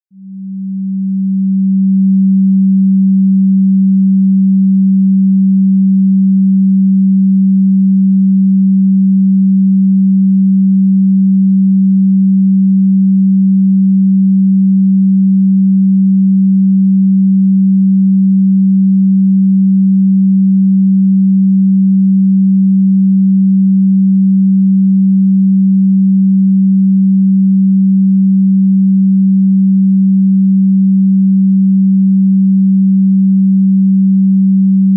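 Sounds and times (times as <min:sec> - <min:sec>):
low sine tone: 0:00.0 - 0:34.9.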